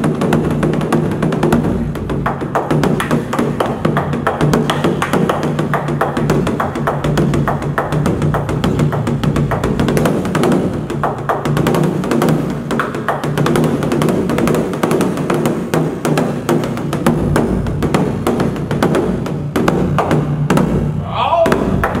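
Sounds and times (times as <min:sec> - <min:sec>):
barrel drum struck rapidly: 0:00.0 - 0:22.0.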